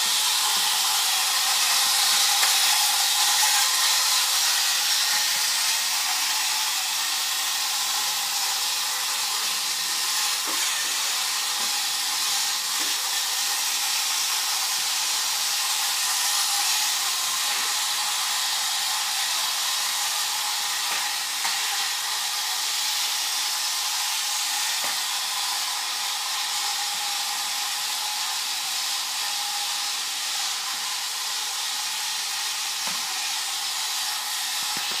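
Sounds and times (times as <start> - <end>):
toy car motor whirring: 0.0 - 35.0.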